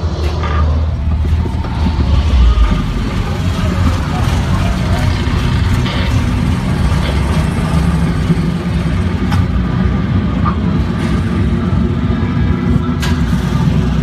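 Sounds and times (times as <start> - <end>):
roller coaster car rumbling on track: 0.0 - 14.0.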